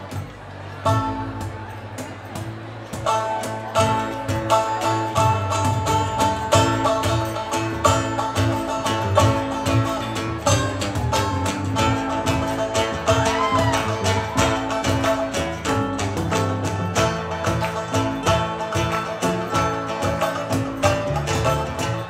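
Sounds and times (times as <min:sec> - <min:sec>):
acoustic guitar: 0:00.0 - 0:22.0
bass line: 0:00.0 - 0:22.0.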